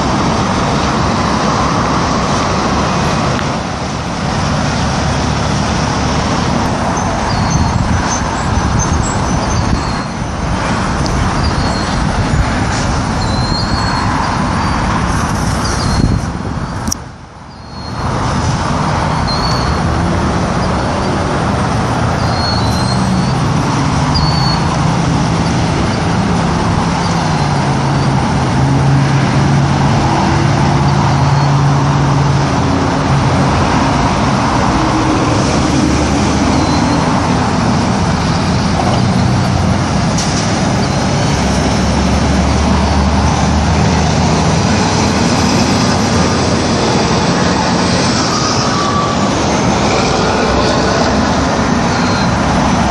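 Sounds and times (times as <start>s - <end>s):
heavy vehicle engine rumbling: 0.0s - 52.9s.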